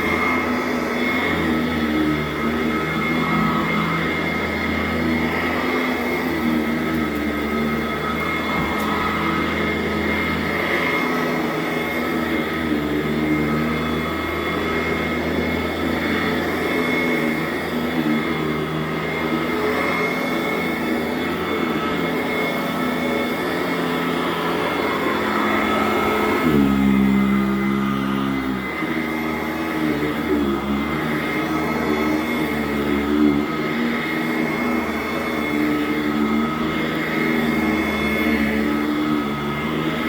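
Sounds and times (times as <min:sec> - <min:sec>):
vacuum cleaner running on carpet: 0:00.0 - 0:40.0.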